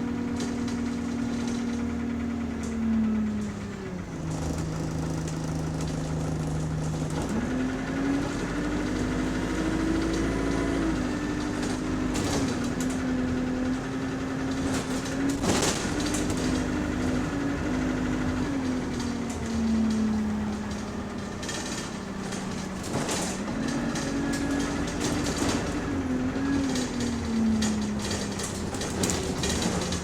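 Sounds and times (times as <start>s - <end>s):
bus engine droning: 0.0s - 30.0s.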